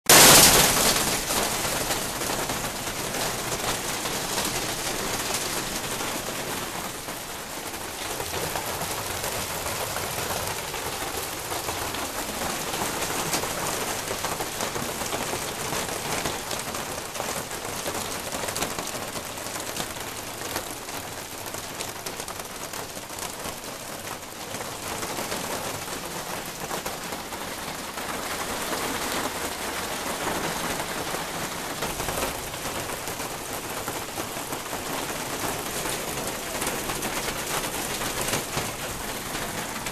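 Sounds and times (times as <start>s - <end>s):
hail clattering on plastic roof: 0.1s - 39.9s
rain rushing: 0.1s - 39.9s.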